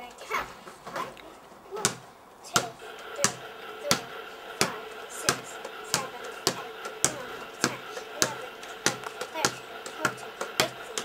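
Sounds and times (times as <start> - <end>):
rubber ball bouncing on stone: 1.8 - 11.0.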